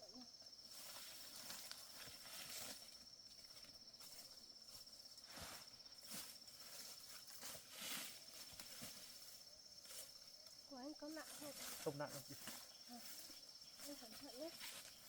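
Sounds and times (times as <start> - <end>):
soft footstep scuffs: 0.7 - 10.2, 11.2 - 15.0.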